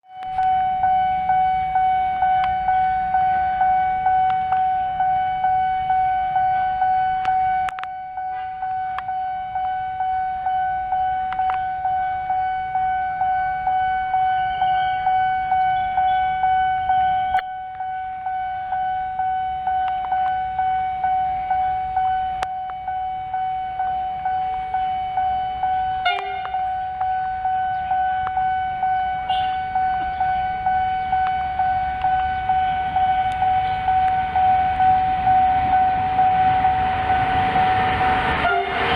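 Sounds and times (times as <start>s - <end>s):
level-crossing warning bell: 0.1s - 38.9s.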